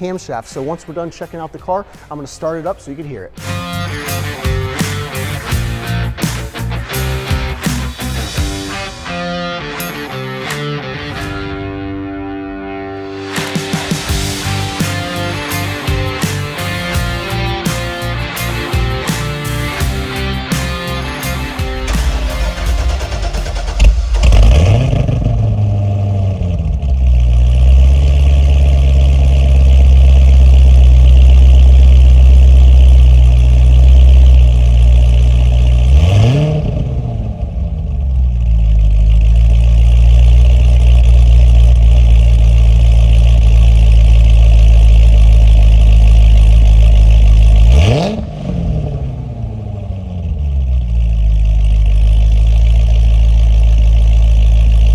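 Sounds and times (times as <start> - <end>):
car engine idling and revving: 3.4 - 12.5, 13.2 - 54.9.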